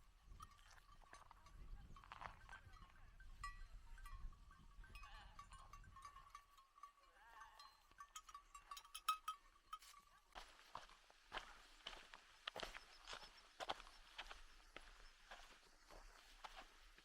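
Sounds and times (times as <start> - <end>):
sheep bells ringing: 0.0 - 13.9.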